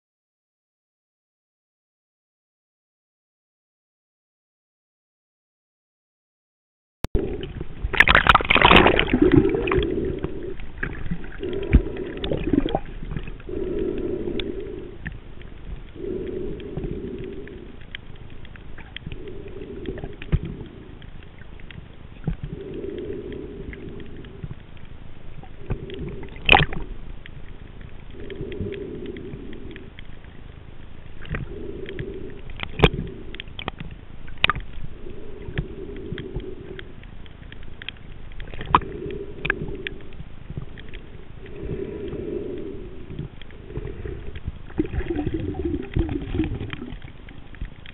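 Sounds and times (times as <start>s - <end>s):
muffled underwater swishing: 7.2s - 47.9s.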